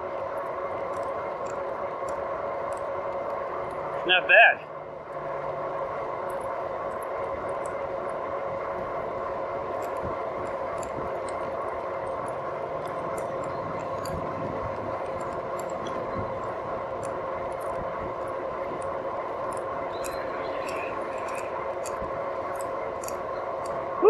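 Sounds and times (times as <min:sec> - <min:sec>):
electric motor whine: 0:00.0 - 0:24.0
tyres humming on pavement: 0:00.0 - 0:24.0.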